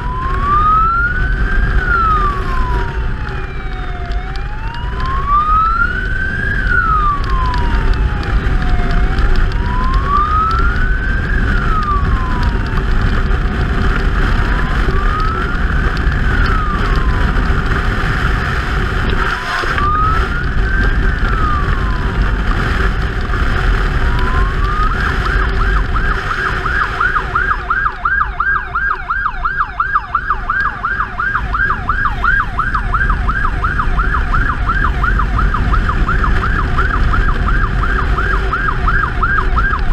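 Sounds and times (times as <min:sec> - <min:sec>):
electronic siren wailing and yelping: 0:00.0 - 0:12.9, 0:14.3 - 0:17.6, 0:19.2 - 0:22.3, 0:23.8 - 0:39.9
motorcycle engine rumble: 0:00.0 - 0:39.9.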